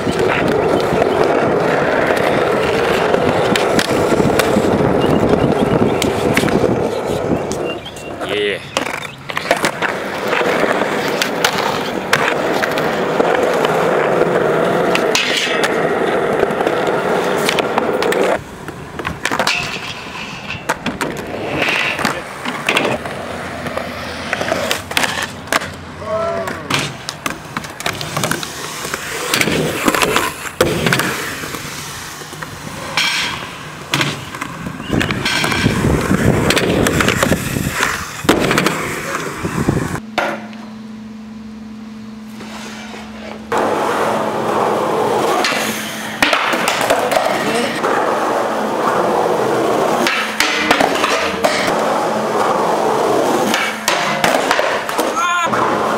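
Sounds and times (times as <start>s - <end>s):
skateboard clacks and knocks: 0.0s - 25.8s, 26.4s - 31.6s, 32.4s - 39.2s, 43.5s - 55.9s
skateboard wheels rolling on concrete: 0.0s - 55.9s.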